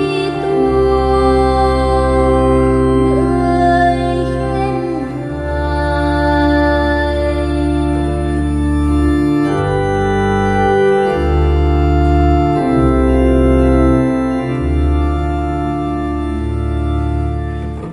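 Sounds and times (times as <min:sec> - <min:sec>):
organ playing held chords: 0:00.0 - 0:17.9.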